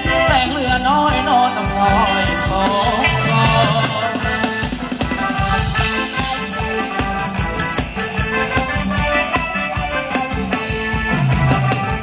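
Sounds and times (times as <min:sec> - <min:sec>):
live band dance music: 0:00.0 - 0:12.0
steady drum beat: 0:00.0 - 0:12.0.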